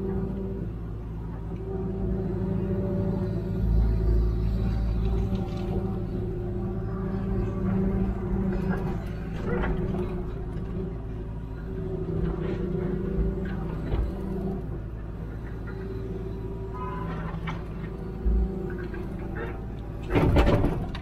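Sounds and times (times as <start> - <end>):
hydraulics working: 0.0 - 21.0.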